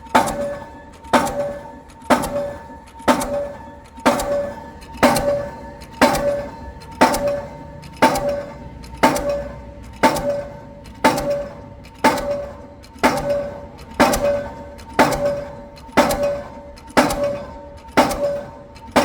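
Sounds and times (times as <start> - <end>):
pile hammer clanging blows: 0.0 - 19.0.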